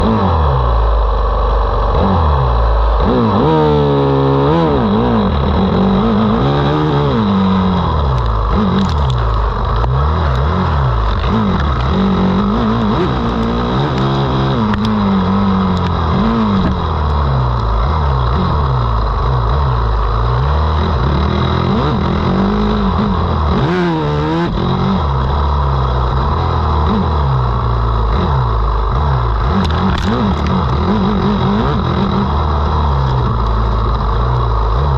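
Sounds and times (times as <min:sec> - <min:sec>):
motocross bike engines revving: 0:00.0 - 0:34.9
sharp engine whine: 0:00.0 - 0:34.9.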